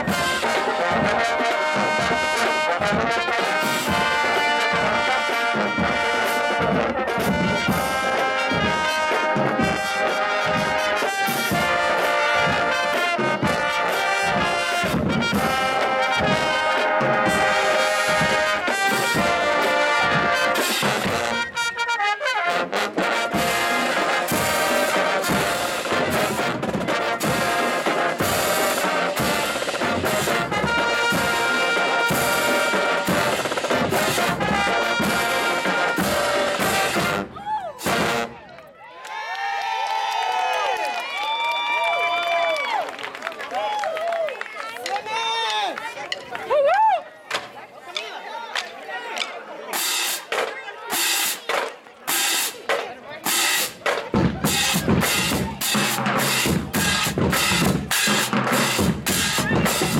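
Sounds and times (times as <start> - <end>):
marching band playing: 0.0 - 38.7, 47.3 - 59.9.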